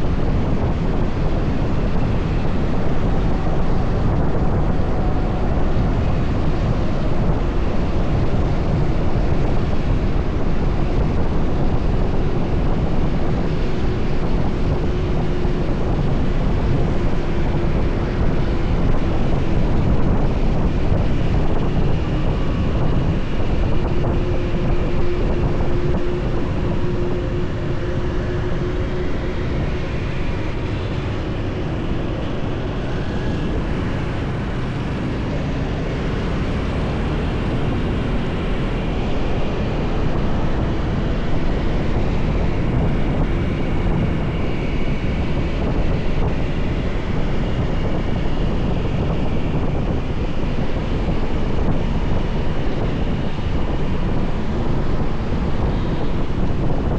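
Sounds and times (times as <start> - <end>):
road noise: 0.0 - 56.9
traffic: 0.0 - 56.9
wind rushing over microphone: 0.0 - 56.9.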